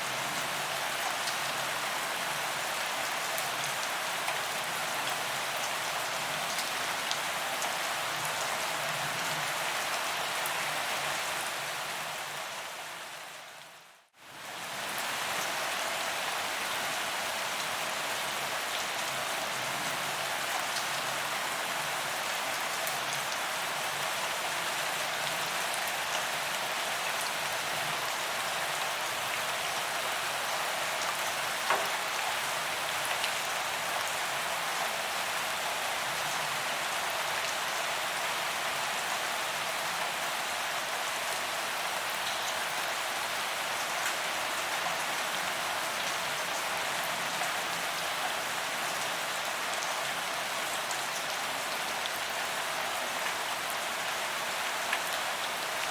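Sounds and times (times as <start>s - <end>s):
rain on pavement: 0.0s - 55.9s.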